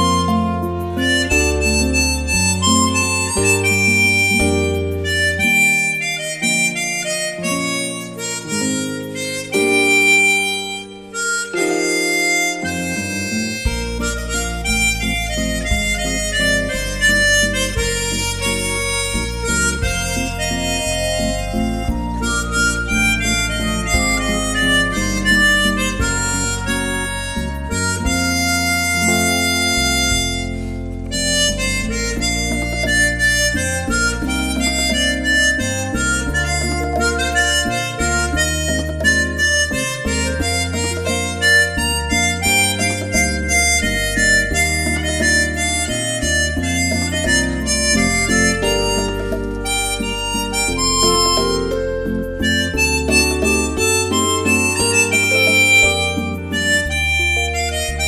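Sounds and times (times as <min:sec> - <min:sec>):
bass accompaniment: 0:00.0 - 0:58.0
harmonica melody: 0:00.0 - 0:58.0.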